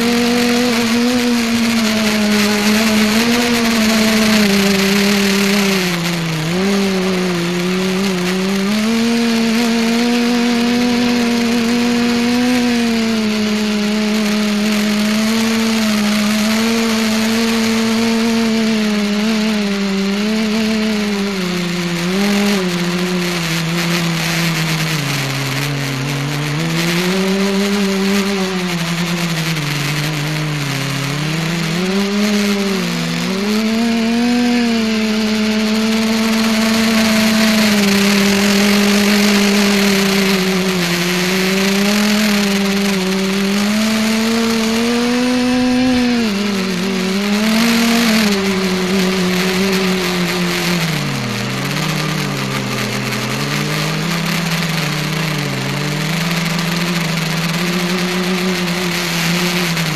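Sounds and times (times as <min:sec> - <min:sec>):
multicopter motors buzzing: 0:00.0 - 0:59.9.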